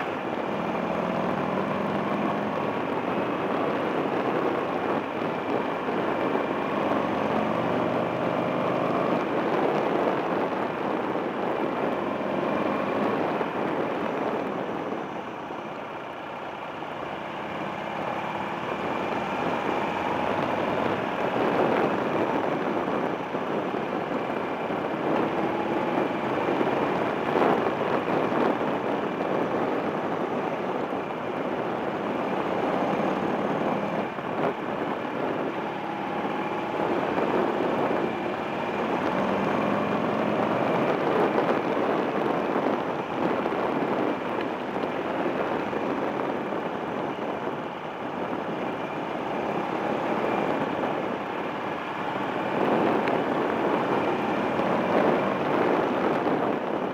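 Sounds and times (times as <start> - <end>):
steady rushing noise: 0.0 - 56.9.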